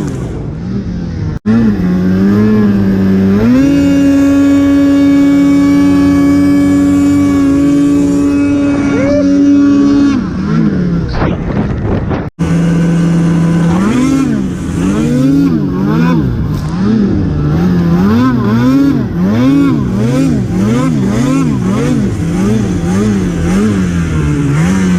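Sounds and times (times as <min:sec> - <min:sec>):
snowmobile engine revving: 0:00.0 - 0:24.9.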